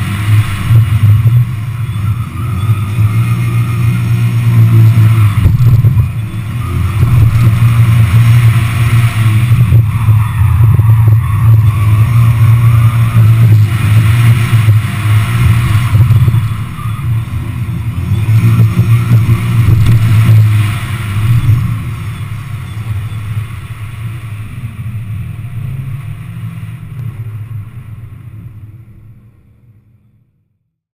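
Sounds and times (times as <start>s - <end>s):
car engine revving hard: 0.0s - 27.0s.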